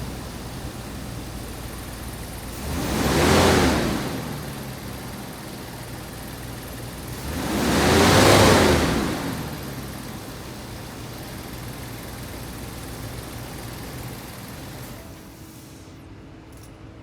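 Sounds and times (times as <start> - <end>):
pickup engine revving and idling: 0.0 - 15.0.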